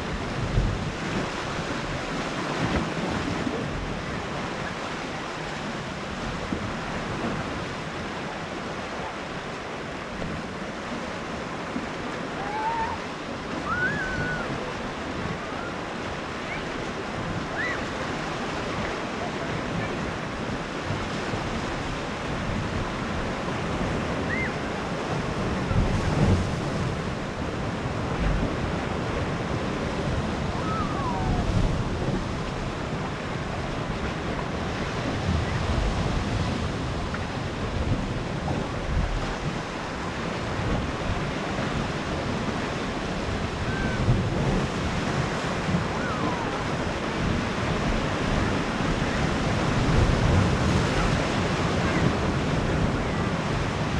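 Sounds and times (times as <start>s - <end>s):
sea waves washing ashore: 0.0s - 53.9s
wind buffeting microphone: 0.0s - 53.9s.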